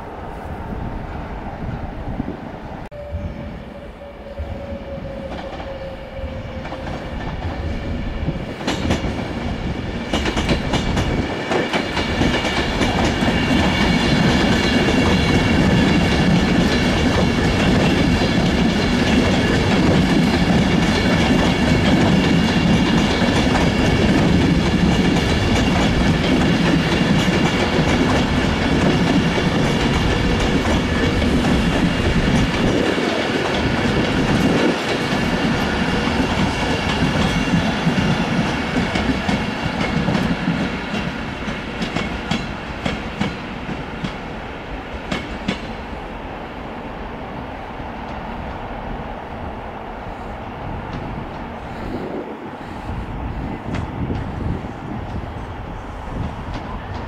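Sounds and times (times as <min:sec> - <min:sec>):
train running through station: 0:00.0 - 0:57.0.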